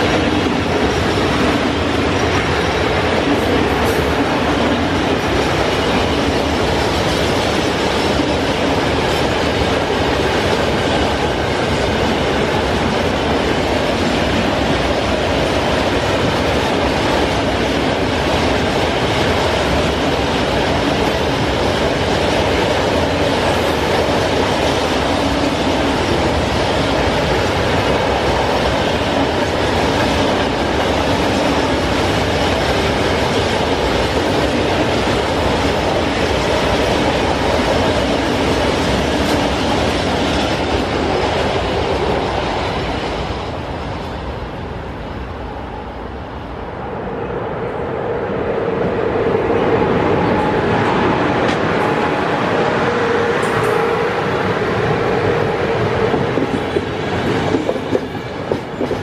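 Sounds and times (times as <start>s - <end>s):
steel train wheels on rails: 0.0s - 59.0s.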